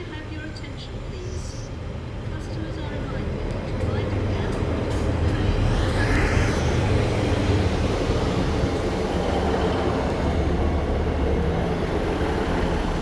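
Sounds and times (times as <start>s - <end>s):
diesel train engine rumbling: 0.0s - 13.0s.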